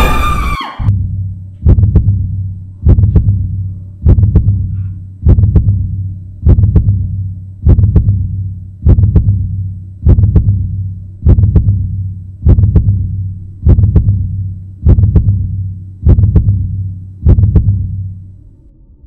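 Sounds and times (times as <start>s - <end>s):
low hum: 0.0s - 19.0s
heartbeat thumps: 0.8s - 18.2s.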